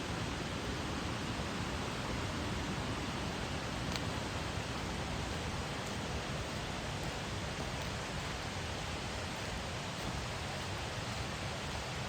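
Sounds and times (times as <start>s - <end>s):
river rushing: 0.2s - 12.0s.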